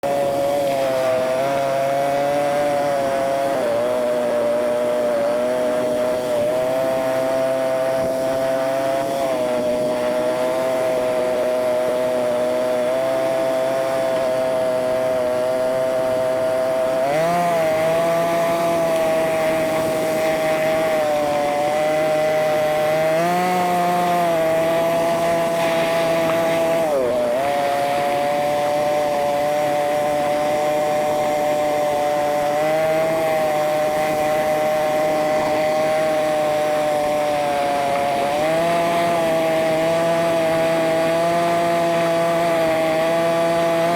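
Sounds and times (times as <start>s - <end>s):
high-pitched atv engine whine: 0.0s - 43.9s.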